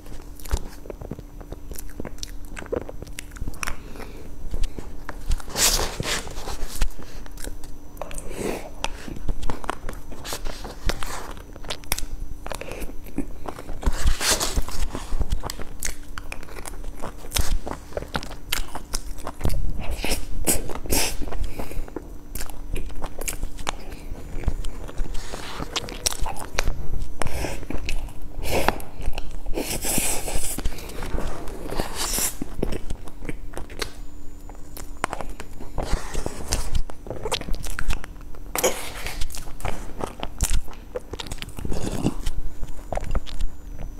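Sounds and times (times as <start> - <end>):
chewing and mouth clicks: 0.1 - 43.9.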